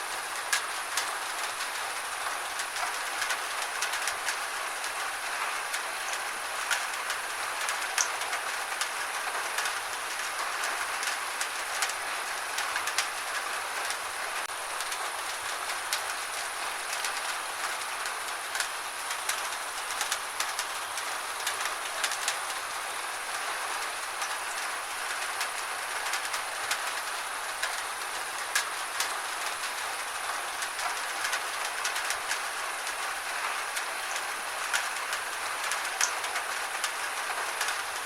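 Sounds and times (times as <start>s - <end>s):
gentle rain falling: 0.0s - 38.0s.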